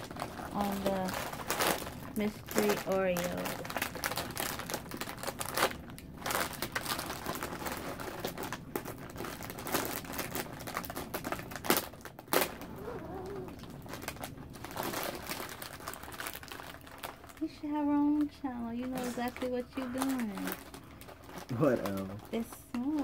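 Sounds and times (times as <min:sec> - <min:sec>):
plastic wrapper crinkling: 0:00.0 - 0:23.0.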